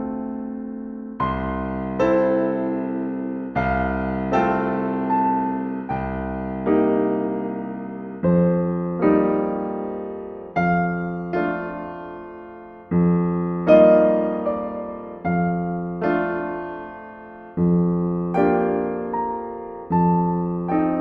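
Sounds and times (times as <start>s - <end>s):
slow solo piano music: 0.0s - 21.0s.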